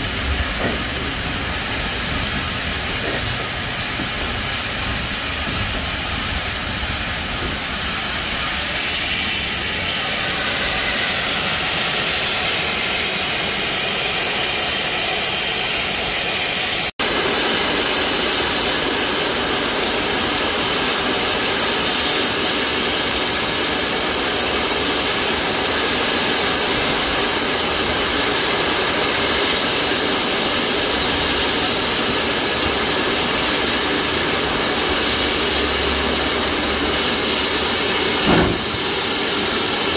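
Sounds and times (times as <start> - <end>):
steam hissing from safety valve: 0.0 - 39.9.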